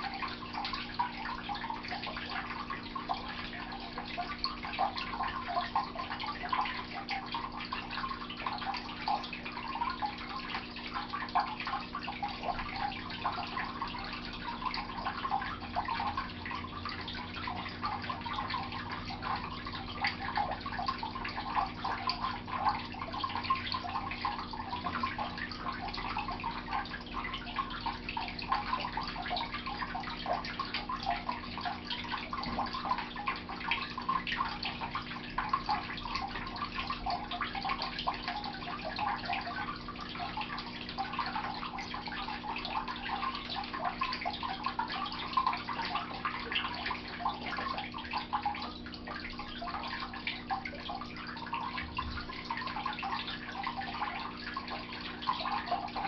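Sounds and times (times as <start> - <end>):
low steady hum: 0.0 - 56.0
trickling patter of small ticks: 0.0 - 56.0.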